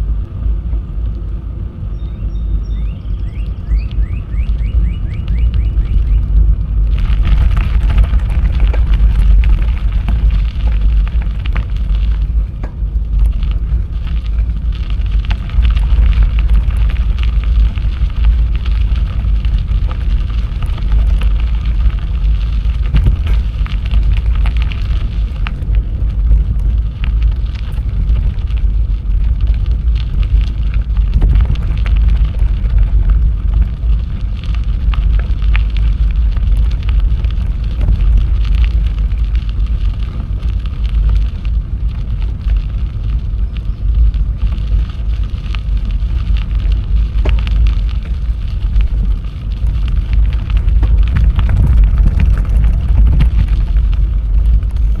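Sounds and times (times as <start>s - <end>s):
bike tyres crackling on trail: 0.0s - 55.0s
wind rumble on microphone: 0.0s - 55.0s.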